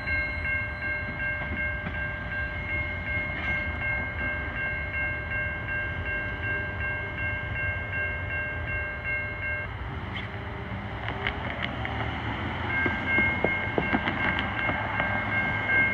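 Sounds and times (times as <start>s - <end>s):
railroad crossing bell ringing: 0.0s - 15.9s.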